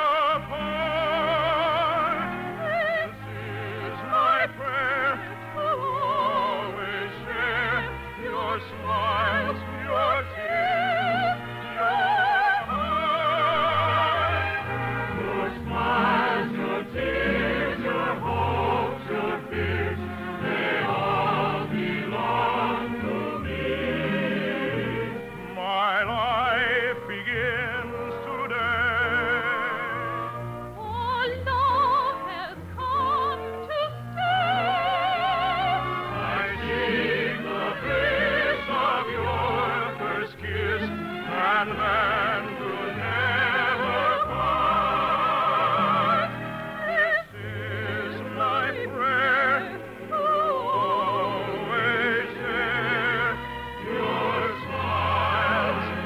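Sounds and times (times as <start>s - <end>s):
operetta singing with orchestra: 0.0s - 56.0s.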